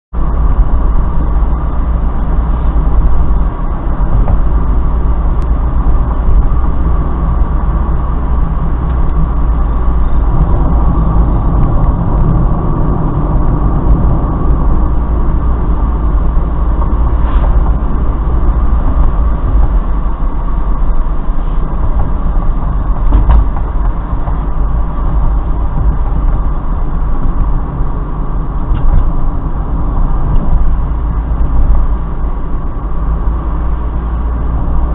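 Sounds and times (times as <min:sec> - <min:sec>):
car engine cruising: 0:00.1 - 0:34.9
tyre and road noise: 0:00.1 - 0:34.9.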